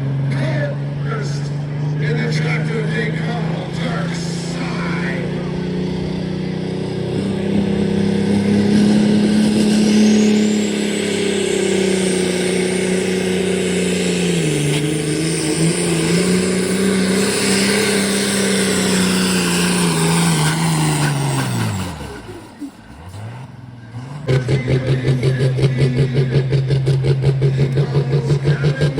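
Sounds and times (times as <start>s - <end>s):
high engine whine: 0.0s - 28.9s
tractor engine at full throttle: 0.0s - 28.9s.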